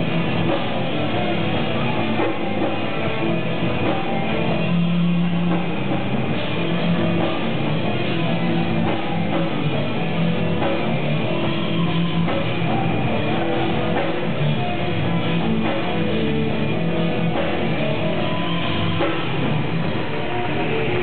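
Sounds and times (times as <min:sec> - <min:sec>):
rock music through car speakers: 0:00.0 - 0:21.0.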